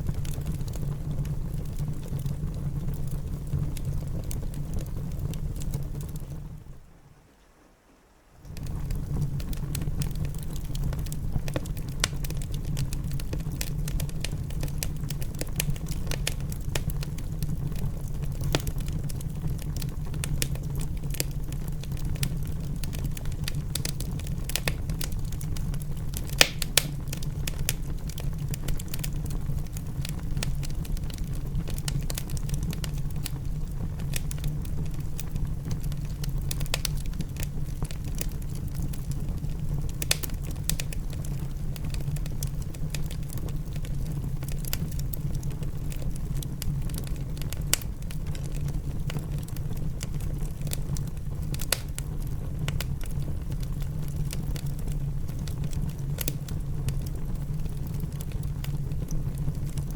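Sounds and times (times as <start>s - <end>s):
wood fire crackling: 0.0s - 7.0s, 8.4s - 59.9s.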